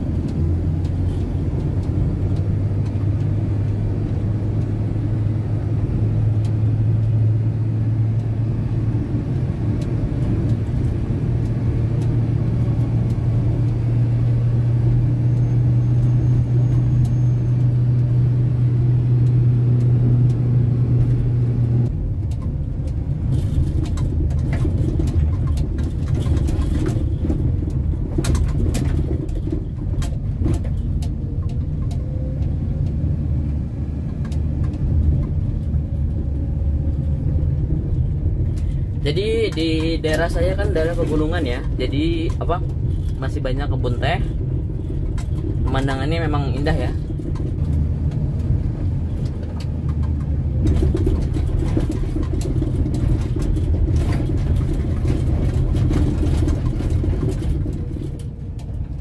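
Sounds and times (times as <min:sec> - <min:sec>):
engine and road drone in cabin: 0:00.0 - 0:59.0
rattles and knocks over bumps: 0:00.0 - 0:59.0.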